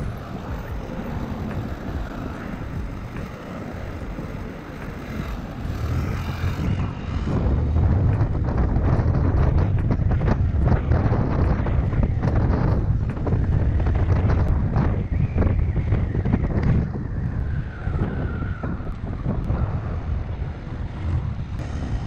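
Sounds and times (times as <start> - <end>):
road traffic passing: 0.0 - 22.0
small motorcycle riding: 0.0 - 22.0
wind rushing over microphone: 0.0 - 22.0.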